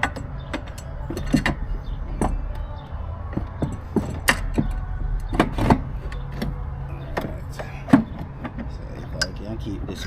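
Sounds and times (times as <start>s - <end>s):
metallic clicks and knocks: 0.0s - 9.4s.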